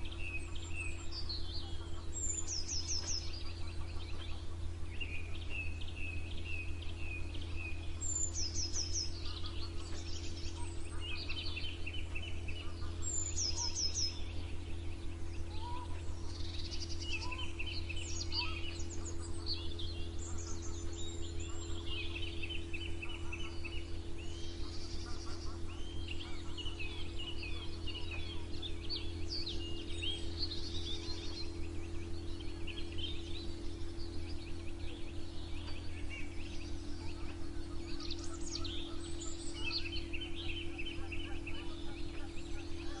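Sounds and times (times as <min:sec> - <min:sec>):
songbirds singing: 0:00.0 - 0:43.0
steady low hum: 0:00.0 - 0:43.0.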